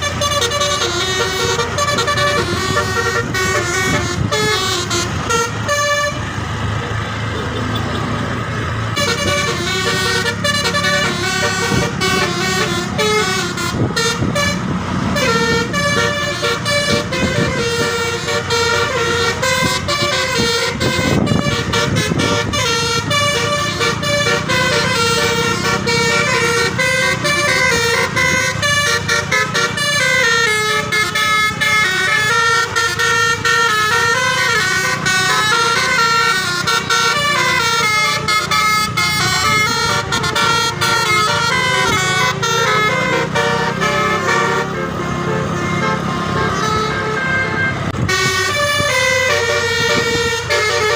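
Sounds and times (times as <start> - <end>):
multi-trumpet air horn melody: 0.0 - 6.3, 8.9 - 50.9
low engine rumble: 0.0 - 50.9.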